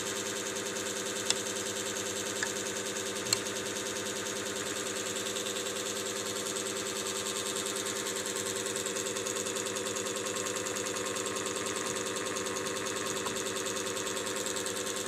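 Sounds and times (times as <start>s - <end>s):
small machine humming and pulsing: 0.0s - 15.0s.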